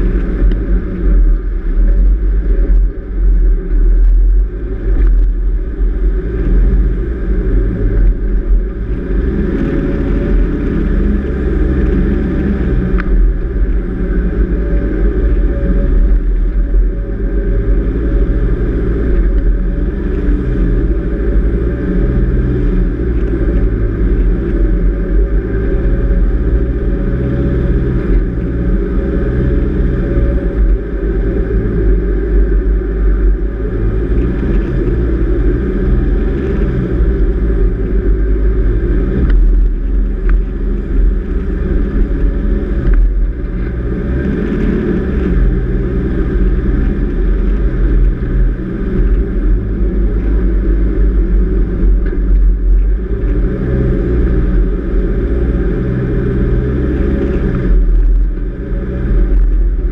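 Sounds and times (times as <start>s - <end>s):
vehicle driving on sand: 0.0s - 59.9s.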